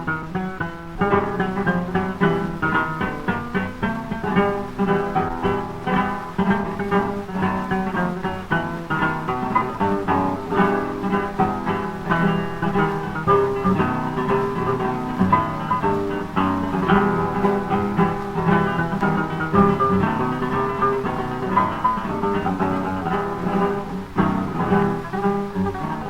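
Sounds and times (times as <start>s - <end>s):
acoustic guitars playing: 0.0s - 26.0s.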